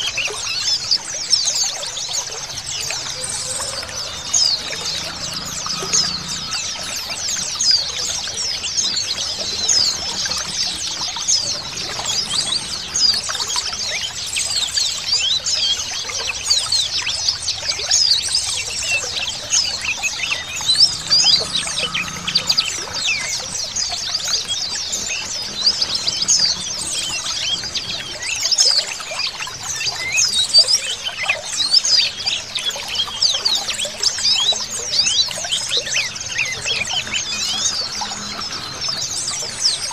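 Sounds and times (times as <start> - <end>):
small birds chirping and twittering: 0.0 - 39.9
water trickling: 0.0 - 39.9.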